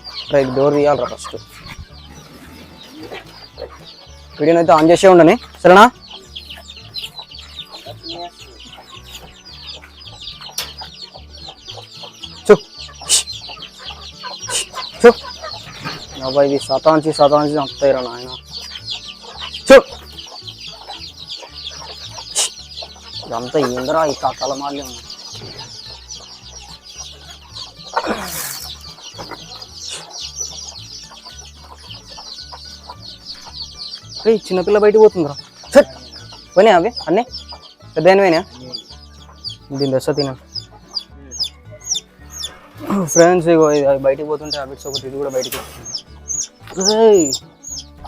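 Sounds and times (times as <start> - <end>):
chicks peeping: 0.0 - 48.0
hen squawking: 0.0 - 48.0
hens clucking: 0.0 - 48.0.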